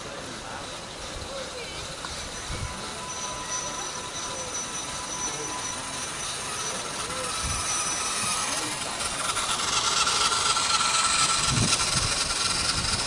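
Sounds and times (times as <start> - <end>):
model locomotive hissing: 0.0 - 13.0.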